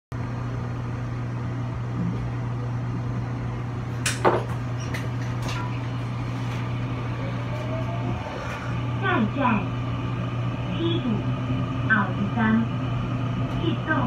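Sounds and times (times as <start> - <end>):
train interior low hum: 0.2 - 14.0.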